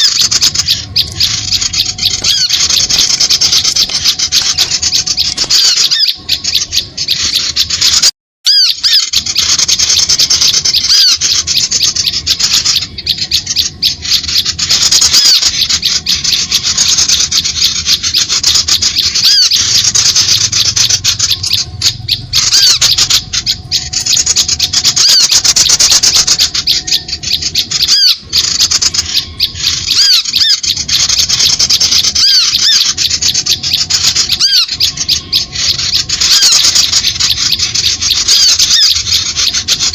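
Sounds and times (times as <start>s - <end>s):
small birds chattering and chirping: 0.0s - 39.9s.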